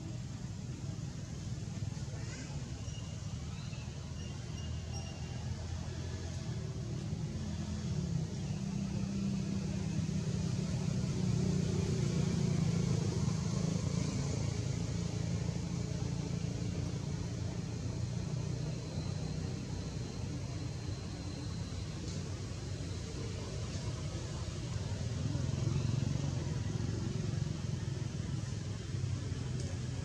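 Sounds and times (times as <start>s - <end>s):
vehicle engine hum: 0.0s - 30.0s.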